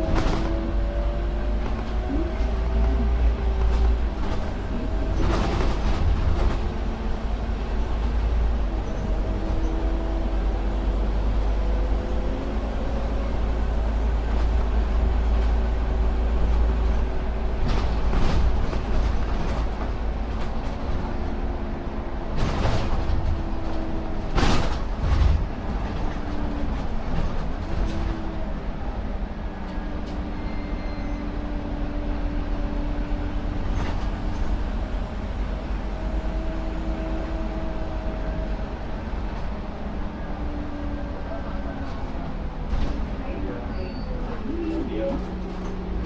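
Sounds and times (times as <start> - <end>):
bus engine rumbling: 0.0 - 46.0.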